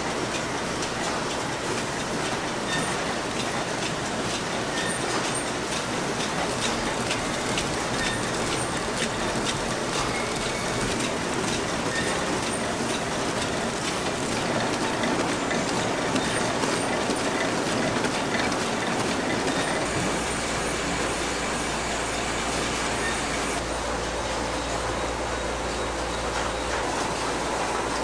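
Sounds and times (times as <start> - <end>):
wrapping machine whirring and ticking: 0.0 - 23.7.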